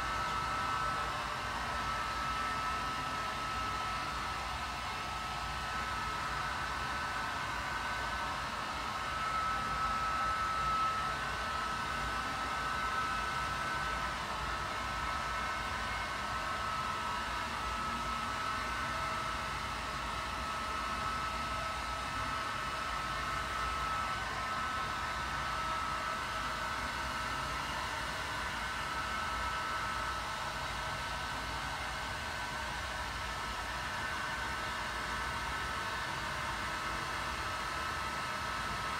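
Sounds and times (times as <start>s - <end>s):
faint high whine: 0.0s - 38.9s.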